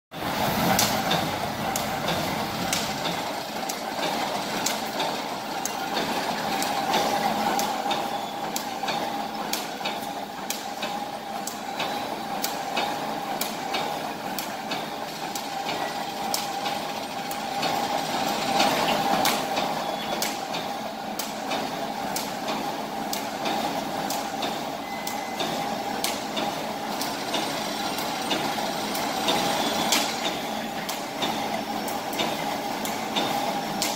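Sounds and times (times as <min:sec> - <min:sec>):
sharp machine clacks: 0:00.2 - 0:33.9.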